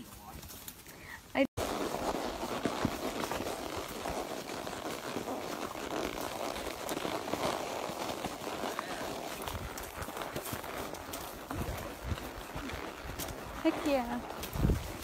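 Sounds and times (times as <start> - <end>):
brush crackling and rustling: 0.0 - 15.0.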